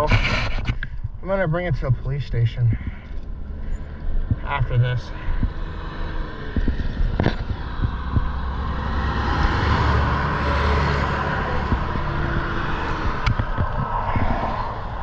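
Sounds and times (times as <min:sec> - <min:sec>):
low traffic rumble: 0:00.0 - 0:15.0
vehicle passing: 0:02.8 - 0:15.0.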